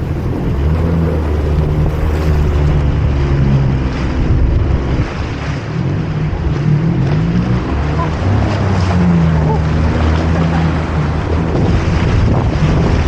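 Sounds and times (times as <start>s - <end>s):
jet ski engine running: 0.0s - 13.0s
wind buffeting microphone: 0.0s - 13.0s.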